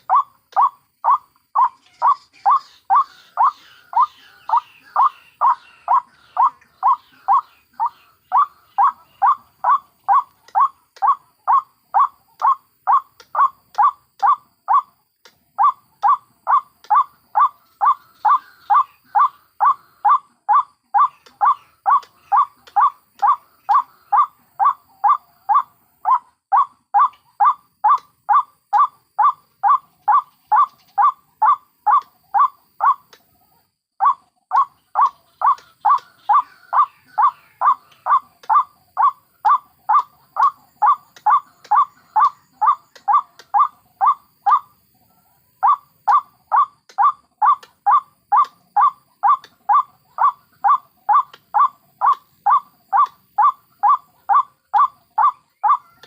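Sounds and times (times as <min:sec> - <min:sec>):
bird calling rapid repeated notes: 0:00.0 - 0:33.2, 0:34.0 - 0:44.8, 0:45.6 - 0:56.0.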